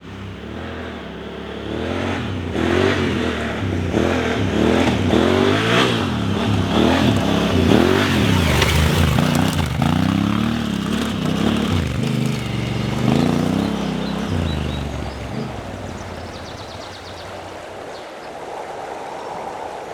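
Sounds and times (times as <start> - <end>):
motorcycle engine revving: 0.0 - 17.8.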